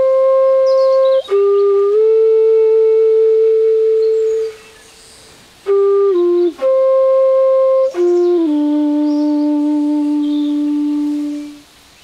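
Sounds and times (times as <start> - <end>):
bamboo flute slow melody: 0.0 - 12.0.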